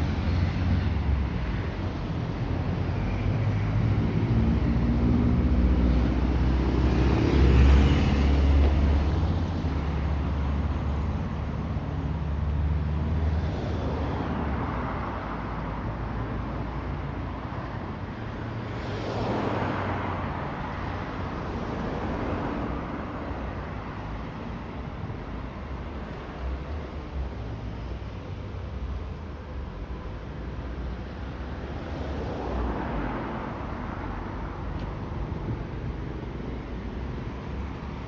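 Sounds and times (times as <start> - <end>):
car engines rumbling: 0.0 - 38.0
cars passing by: 0.0 - 38.0.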